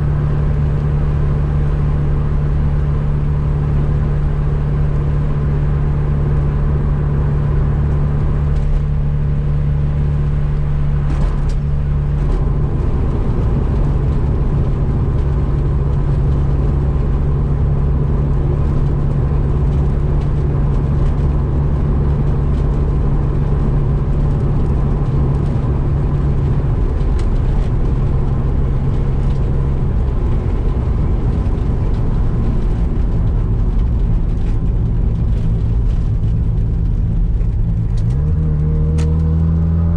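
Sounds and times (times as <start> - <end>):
rotary car engine cruising: 0.0 - 39.9.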